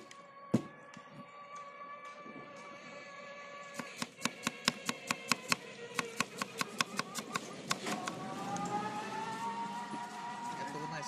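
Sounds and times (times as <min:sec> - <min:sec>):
steady tone rising in pitch: 0:00.0 - 0:11.0.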